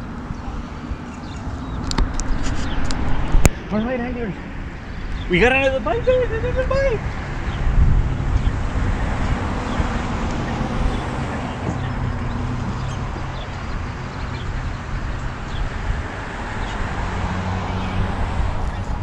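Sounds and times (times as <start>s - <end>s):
distant traffic: 0.0s - 19.0s
wind on microphone: 0.0s - 19.0s.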